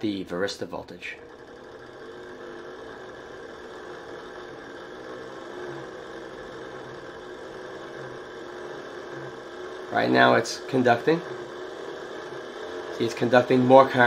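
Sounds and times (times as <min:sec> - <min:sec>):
hand-cranked generator whirring: 0:00.0 - 0:14.0.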